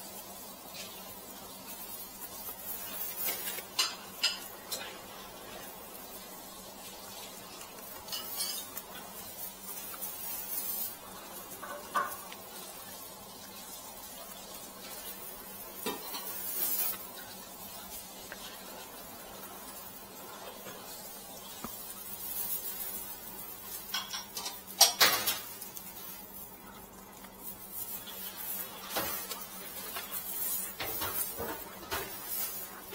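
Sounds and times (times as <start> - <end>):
dry straw rustling and crackling: 0.0 - 32.9.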